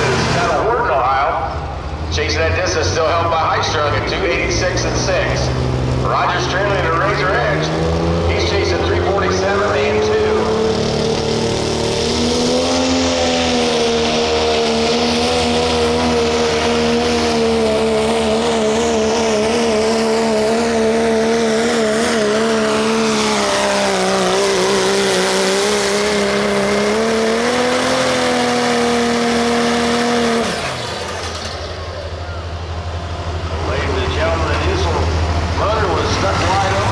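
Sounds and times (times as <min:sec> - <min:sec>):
diesel truck engine under load: 0:00.0 - 0:36.9.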